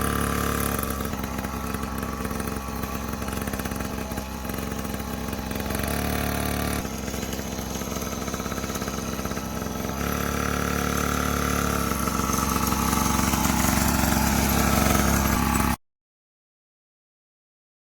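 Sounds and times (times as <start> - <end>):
dirt bike engine running: 0.0 - 15.8.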